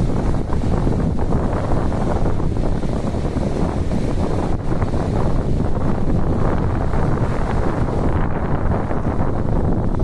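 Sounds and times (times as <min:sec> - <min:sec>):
small waves washing onto beach: 0:00.0 - 0:10.0
wind buffeting microphone: 0:00.0 - 0:10.0.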